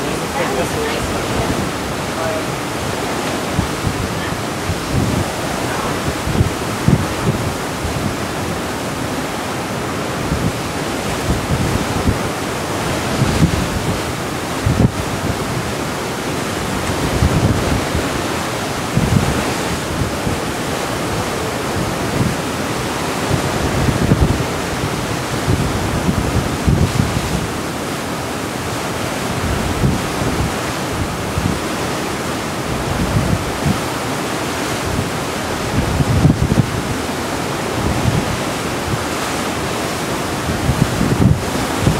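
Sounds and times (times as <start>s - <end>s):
water rushing along ship hull: 0.0s - 41.9s
wind buffeting microphone: 0.0s - 41.9s.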